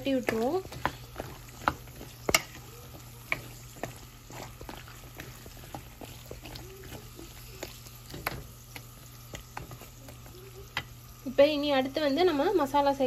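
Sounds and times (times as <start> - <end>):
spatula scraping a pan: 0.0 - 11.0
food sizzling in a pan: 0.0 - 13.0.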